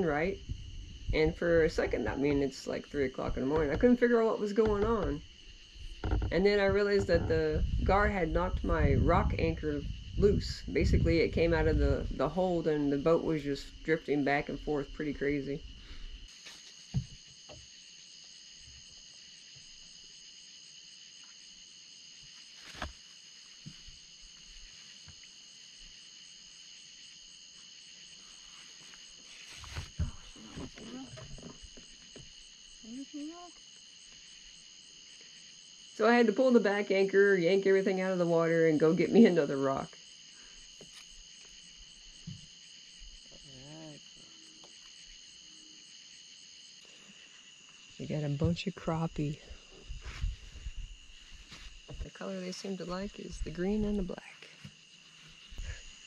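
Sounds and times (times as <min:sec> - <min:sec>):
faint crickets chirping: 0:00.0 - 0:56.0
night insects chorus: 0:00.0 - 0:56.0.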